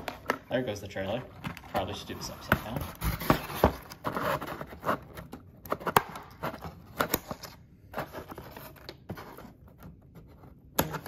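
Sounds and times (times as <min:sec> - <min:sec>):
cord and cardboard rustling: 0:00.0 - 0:11.0.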